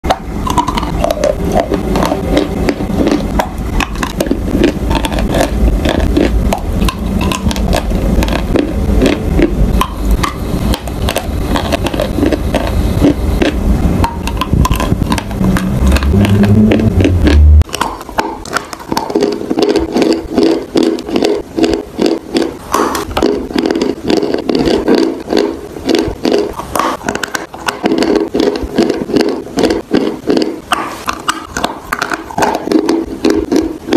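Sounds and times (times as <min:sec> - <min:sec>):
chewing chalk lumps: 0:00.0 - 0:33.9.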